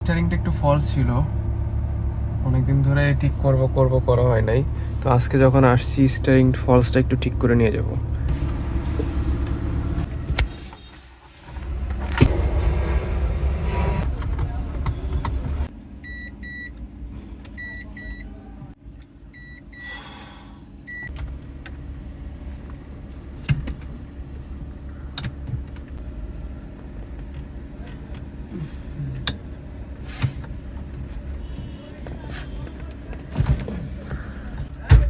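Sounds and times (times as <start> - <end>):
car engine idling: 0.0 - 15.7, 20.8 - 34.7.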